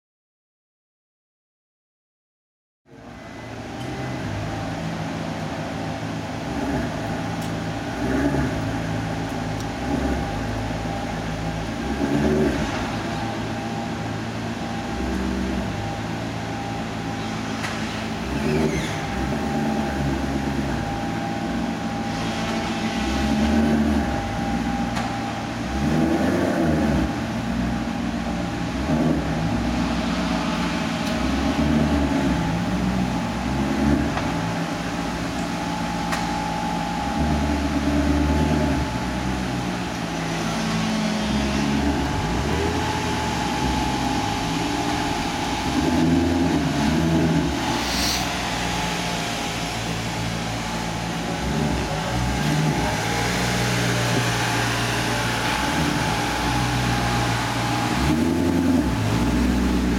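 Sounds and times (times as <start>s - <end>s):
car engine idling: 2.9s - 59.9s.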